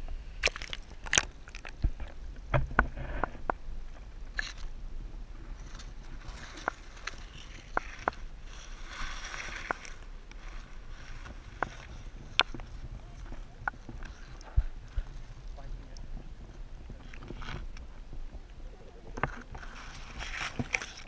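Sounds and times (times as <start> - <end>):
low underwater rumble: 0.0 - 21.0.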